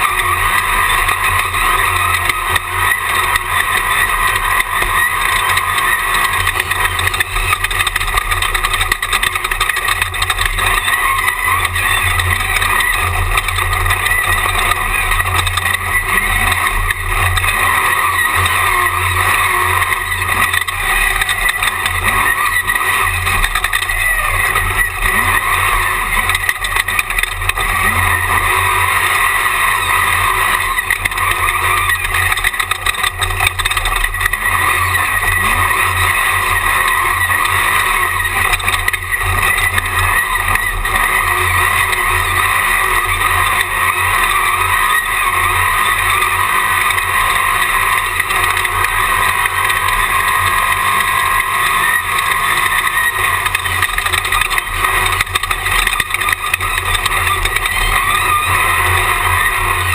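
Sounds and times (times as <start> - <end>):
race car engine drone: 0.0 - 59.9.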